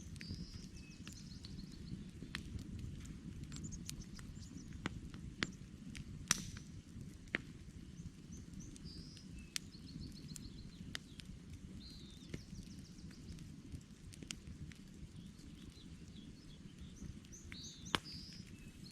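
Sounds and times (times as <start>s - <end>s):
campfire crackling and popping: 0.0s - 18.9s
low rumble of flames: 0.0s - 18.9s
songbirds chirping faintly: 0.0s - 18.9s.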